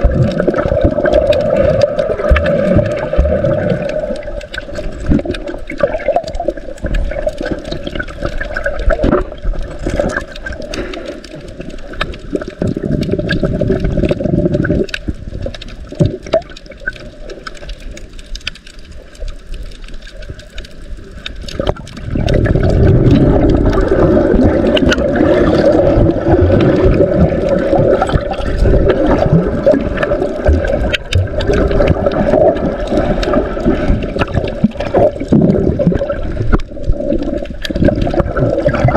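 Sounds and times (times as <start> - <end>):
clicks and crackles: 0.0 - 38.9
underwater water rushing and gurgling: 0.0 - 38.9.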